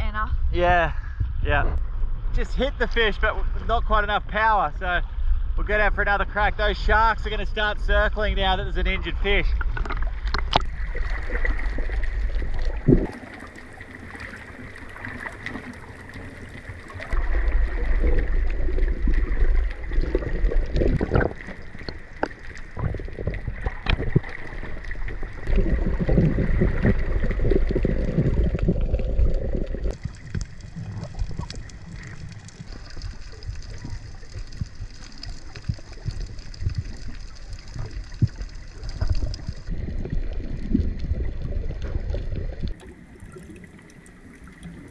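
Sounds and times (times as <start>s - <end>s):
muffled underwater water sloshing: 8.8s - 44.9s.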